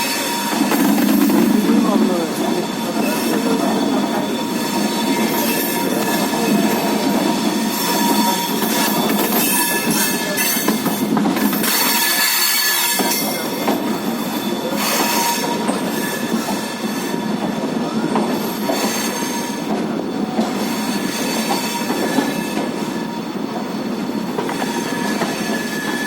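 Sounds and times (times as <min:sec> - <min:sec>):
high-pitched train squeal: 0:00.0 - 0:26.0
train coaches rumbling: 0:00.0 - 0:26.0.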